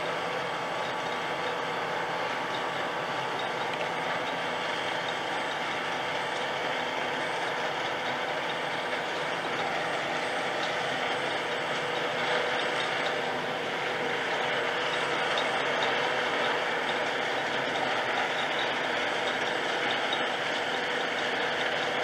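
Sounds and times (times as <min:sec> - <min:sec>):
potato harvester running: 0:00.0 - 0:22.0
tractor engine: 0:00.0 - 0:22.0.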